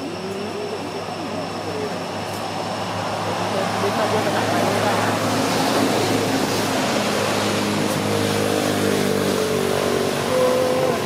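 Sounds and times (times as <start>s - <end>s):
steady rushing noise: 2.0s - 11.0s.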